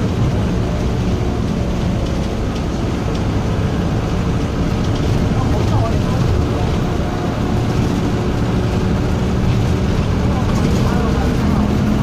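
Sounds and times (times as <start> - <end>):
diesel bus engine drone: 0.0 - 12.0.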